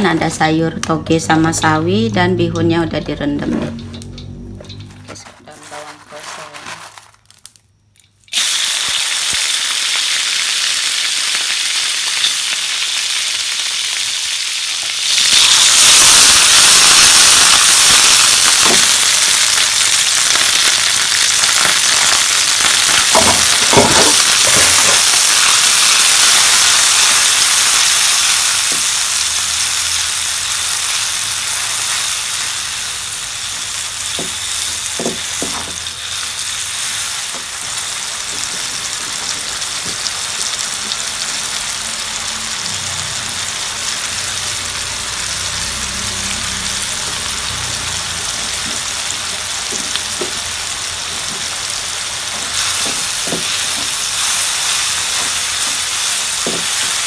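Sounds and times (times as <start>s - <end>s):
onions sizzling in hot oil: 8.3s - 57.0s.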